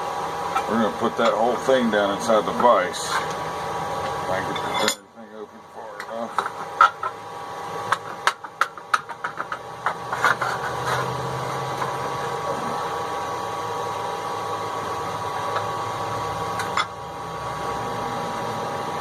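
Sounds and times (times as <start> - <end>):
machine hum with faint whine: 0.0 - 19.0.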